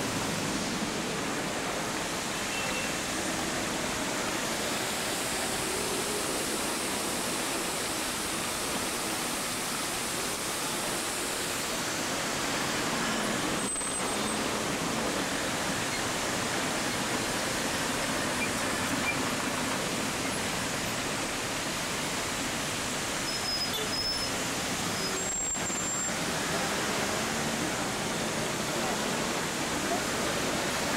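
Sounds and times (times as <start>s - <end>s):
city traffic passing: 0.0s - 30.9s
fountain water splashing: 0.0s - 30.9s.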